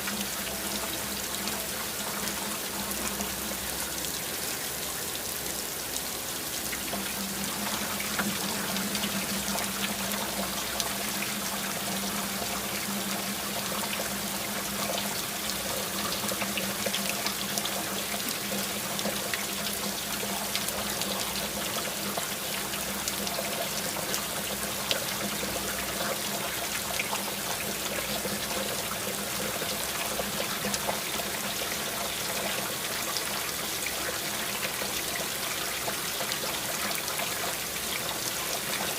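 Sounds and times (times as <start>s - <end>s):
rain drops ticking: 0.0s - 38.9s
water trickling: 0.0s - 38.9s.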